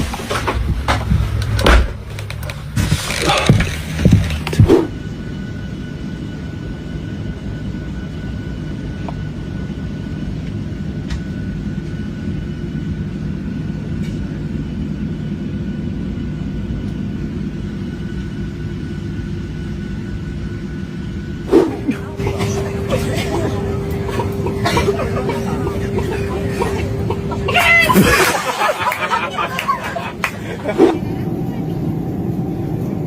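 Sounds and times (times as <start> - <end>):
aircraft engine rumble: 0.0 - 33.0
faint high whine: 4.9 - 33.0.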